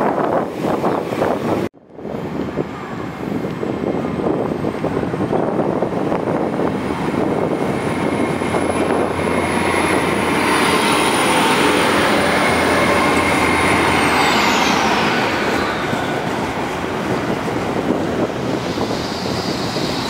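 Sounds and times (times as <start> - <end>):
high train whine: 0.0 - 20.0
train rumble of engine and wheels: 0.0 - 20.0.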